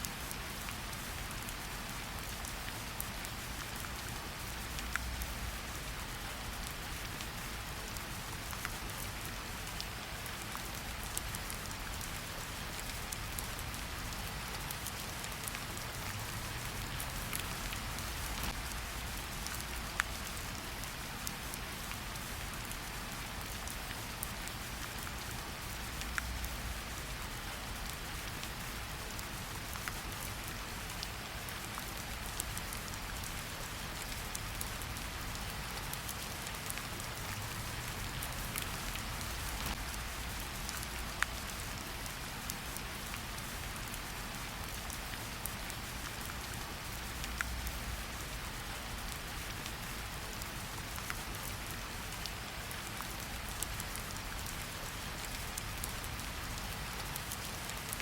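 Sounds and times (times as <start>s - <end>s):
rain falling in a forest: 0.0s - 58.0s
raindrops ticking close by: 0.0s - 58.0s.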